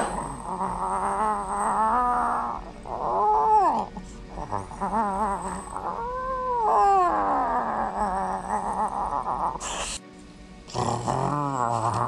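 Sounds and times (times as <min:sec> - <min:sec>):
cat yowling and growling: 0:00.0 - 0:10.0, 0:10.7 - 0:12.0.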